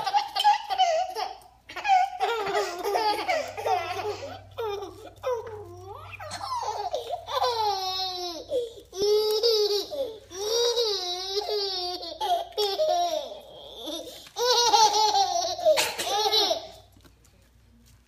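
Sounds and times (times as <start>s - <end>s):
baby laughing: 0.0s - 16.9s.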